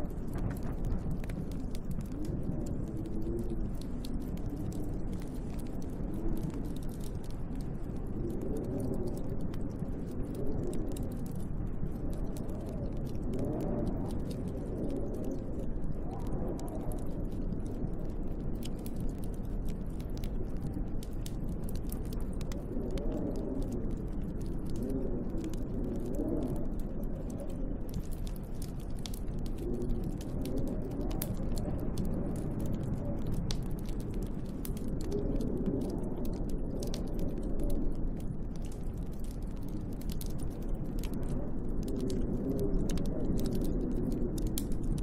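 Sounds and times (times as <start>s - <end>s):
steady low rumble: 0.0s - 45.0s
wind howling: 0.0s - 45.0s
wood fire crackling: 0.0s - 45.0s.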